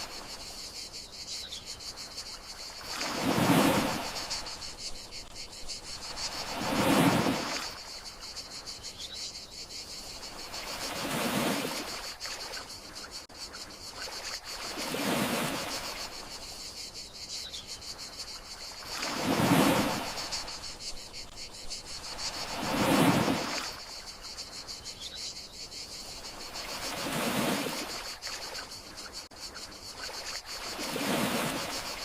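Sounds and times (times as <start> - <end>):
crickets chirring: 0.0 - 32.0
gentle sea waves: 0.0 - 32.0.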